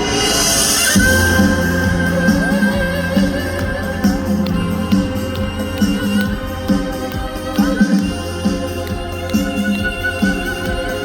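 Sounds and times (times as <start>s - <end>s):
guitar: 0.8s - 11.0s
pulsing bass line: 0.9s - 11.0s.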